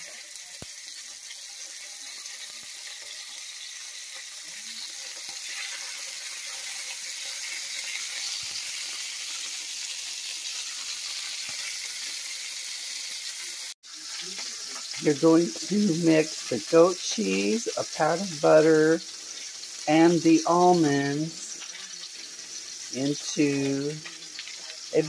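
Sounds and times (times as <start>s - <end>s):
chicken frying in hot oil: 0.0s - 25.0s.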